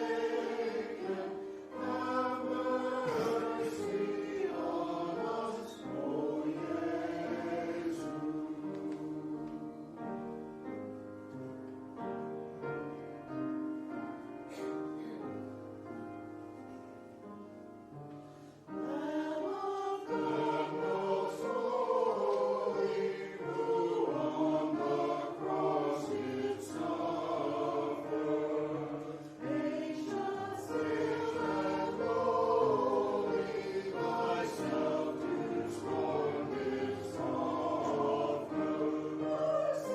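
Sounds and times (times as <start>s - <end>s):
choir singing: 0.0s - 11.0s, 18.6s - 39.9s.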